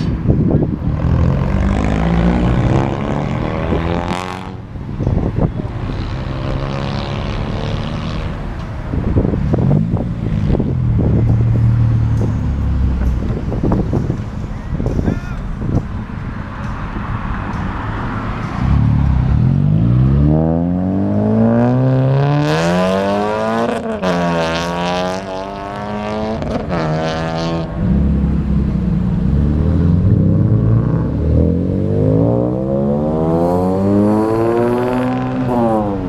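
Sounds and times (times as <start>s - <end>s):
car engines accelerating hard: 0.0s - 36.0s.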